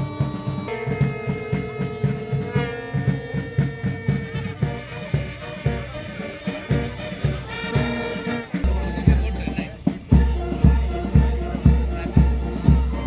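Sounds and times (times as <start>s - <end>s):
brass instruments holding notes: 0.0s - 13.0s
steady drum beat: 0.0s - 13.0s.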